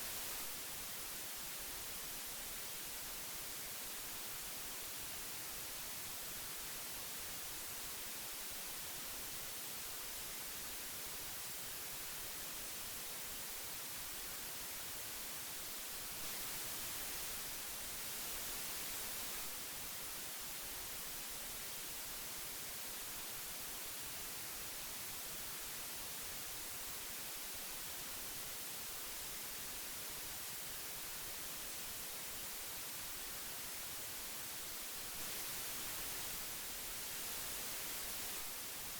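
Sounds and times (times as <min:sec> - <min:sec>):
tape hiss: 0:00.0 - 0:38.9.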